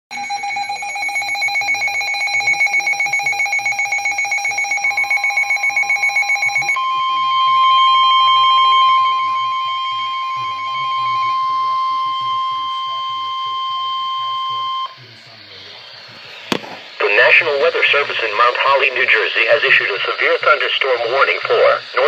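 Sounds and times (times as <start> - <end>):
weather radio alarm beeping: 0.1 - 15.0, 15.6 - 22.0
steady loud alarm tone: 0.1 - 22.0.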